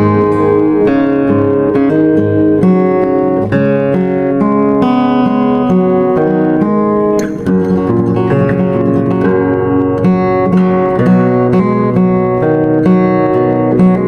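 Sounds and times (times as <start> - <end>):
acoustic guitar picking: 0.0 - 14.0.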